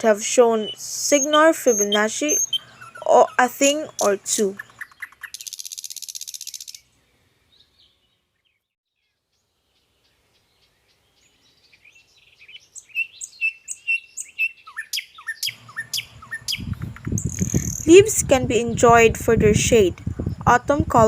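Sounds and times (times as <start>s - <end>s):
birds chirping: 0.0s - 19.3s
downward-sweeping bird calls: 0.2s - 17.9s.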